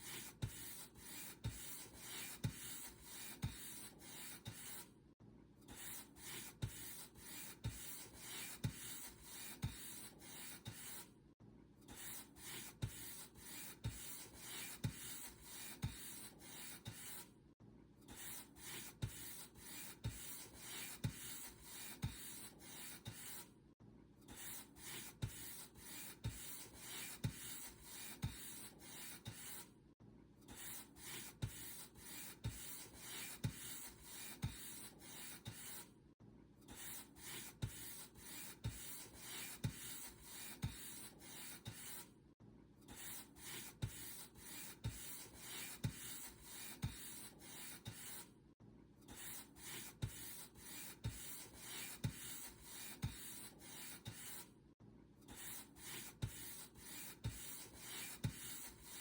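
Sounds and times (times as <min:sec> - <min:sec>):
paint brush scratchy strokes: 0:00.0 - 0:04.9, 0:05.8 - 0:11.1, 0:12.0 - 0:17.3, 0:18.2 - 0:23.5, 0:24.4 - 0:29.7, 0:30.6 - 0:35.9, 0:36.7 - 0:42.1, 0:42.9 - 0:48.3, 0:49.1 - 0:54.5, 0:55.3 - 0:59.0.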